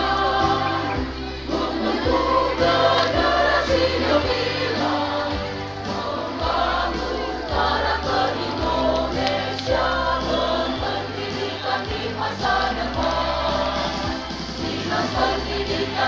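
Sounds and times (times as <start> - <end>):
choir singing a march: 0.0 - 16.0
instrumental accompaniment: 0.0 - 16.0.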